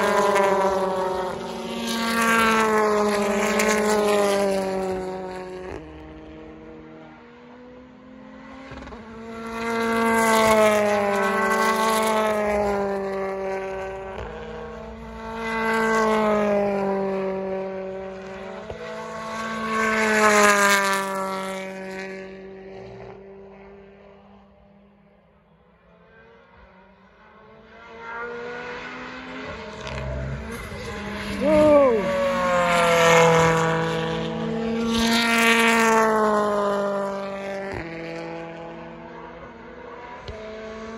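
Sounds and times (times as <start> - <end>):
race car engines accelerating: 0.0 - 40.9.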